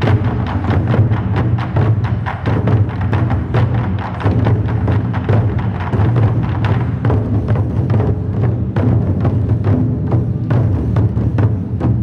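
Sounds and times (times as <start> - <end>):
barrel drums beaten fast: 0.0 - 12.0.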